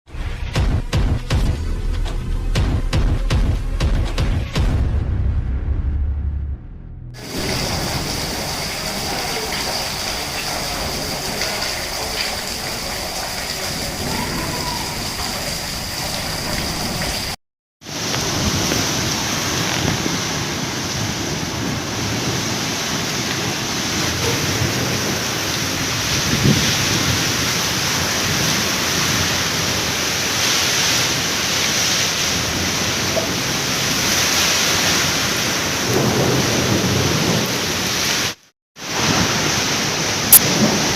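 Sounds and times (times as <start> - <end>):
steady rain falling: 7.2 - 40.9.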